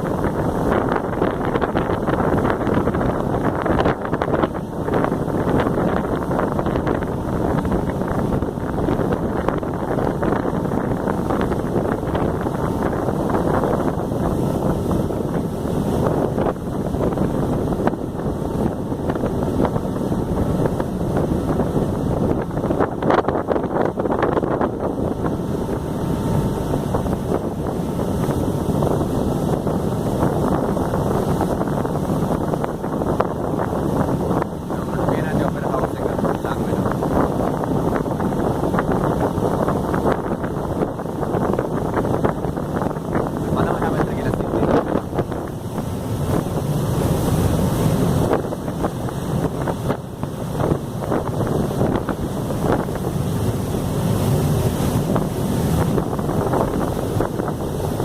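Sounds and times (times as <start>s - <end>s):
ferry engine rumble: 0.0s - 58.0s
water: 0.0s - 58.0s
wind buffeting microphone: 0.0s - 58.0s.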